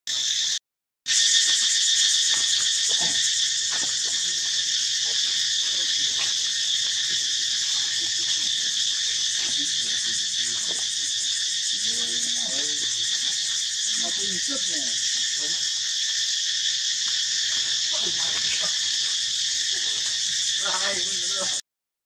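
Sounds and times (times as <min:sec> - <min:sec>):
insects droning: 0:00.1 - 0:21.6.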